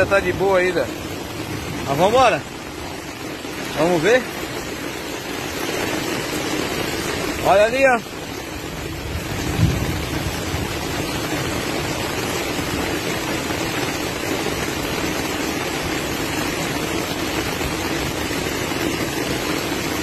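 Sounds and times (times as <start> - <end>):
heavy rain on street: 0.0 - 20.0.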